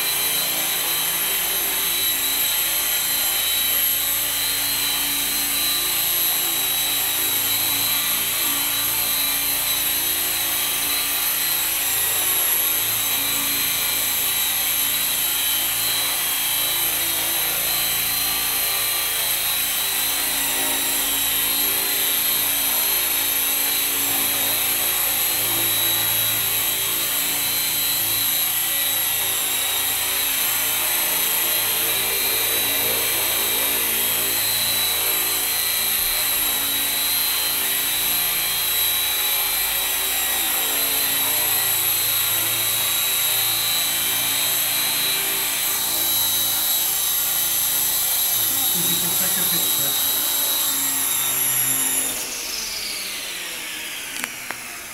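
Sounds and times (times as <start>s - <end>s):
model helicopter motor whine: 0.0s - 54.9s.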